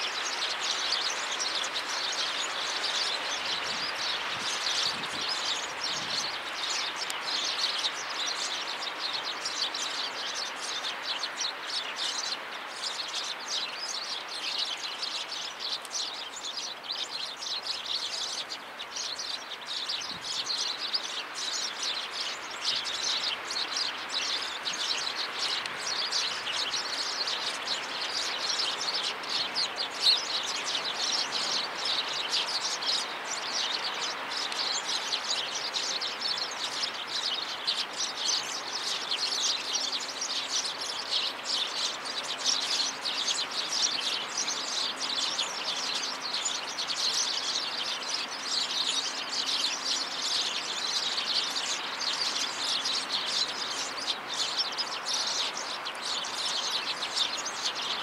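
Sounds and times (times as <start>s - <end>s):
faint background noise: 0.0s - 58.0s
small birds chirping: 0.0s - 58.0s.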